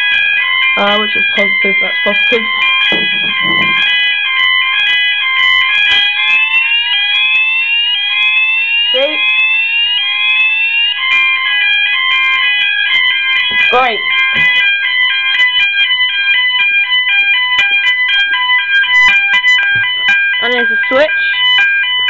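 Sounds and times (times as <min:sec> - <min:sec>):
rising sweep alarm tone: 0:00.0 - 0:22.0
two-tone fire alarm: 0:00.0 - 0:22.0.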